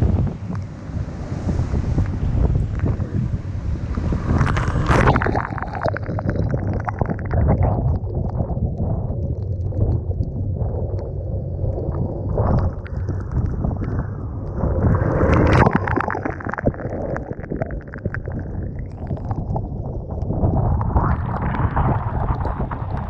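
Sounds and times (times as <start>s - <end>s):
waves washing and splashing: 0.0s - 23.0s
wind buffeting the microphone: 0.0s - 23.0s.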